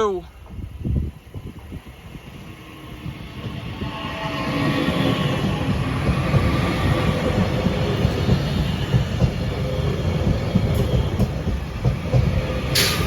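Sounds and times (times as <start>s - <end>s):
train wheels rumbling on rails: 0.2s - 13.0s.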